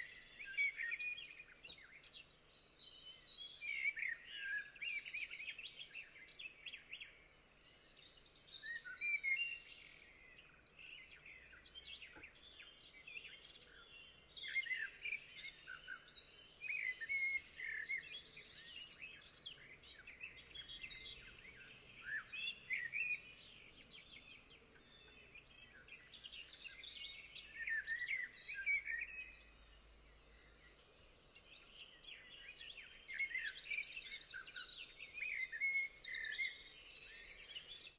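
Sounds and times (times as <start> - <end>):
songbirds chirping and trilling: 0.0 - 37.9.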